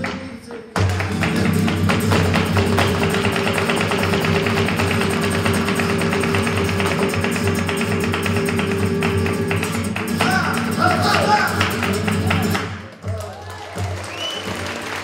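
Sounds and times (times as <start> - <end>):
footwork stamping on wooden stage: 0.0 - 15.0.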